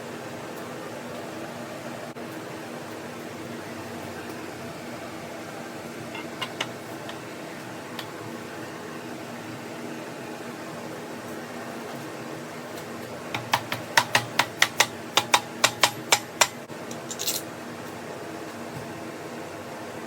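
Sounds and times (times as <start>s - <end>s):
fan-like hum: 0.0s - 20.0s.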